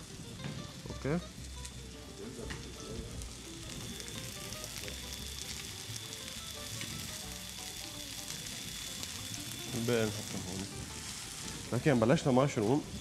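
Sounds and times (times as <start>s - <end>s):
mushrooms sizzling in a frying pan: 0.0s - 13.0s.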